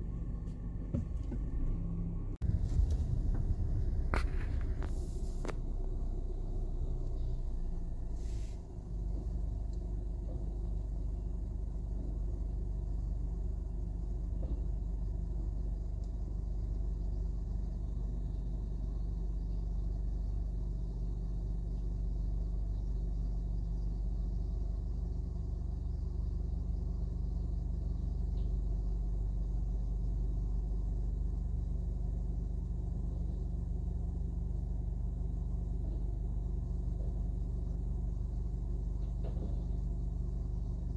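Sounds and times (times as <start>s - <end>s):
garbage truck engine idling: 0.0s - 40.9s.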